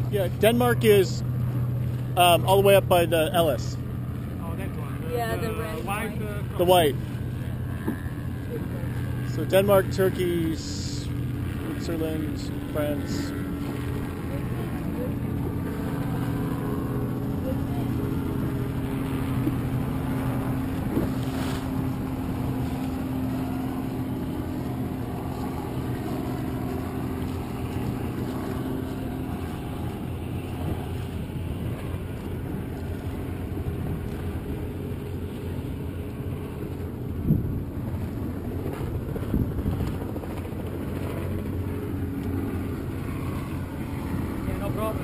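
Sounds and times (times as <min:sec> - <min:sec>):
boat engine running: 0:00.0 - 0:45.0
choppy water: 0:00.0 - 0:45.0
wind: 0:00.0 - 0:45.0.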